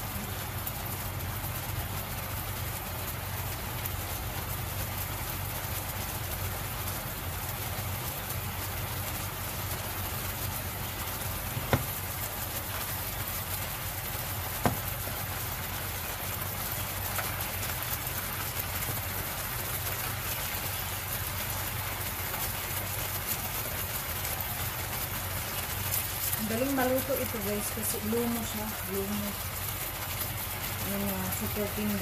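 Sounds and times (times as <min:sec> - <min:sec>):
meat sizzling in a frying pan: 0:00.0 - 0:32.0.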